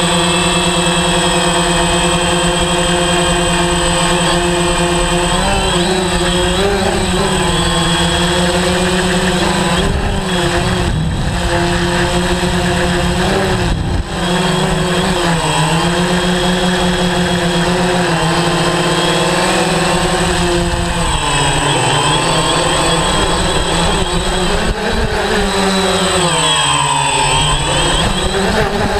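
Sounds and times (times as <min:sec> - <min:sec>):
drone propellers buzzing: 0:00.0 - 0:28.9.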